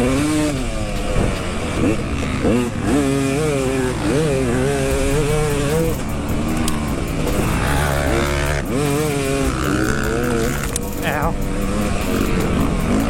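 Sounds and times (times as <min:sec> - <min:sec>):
continuous rushing noise: 0:00.0 - 0:13.0
dirt bike engine revving: 0:00.0 - 0:13.0.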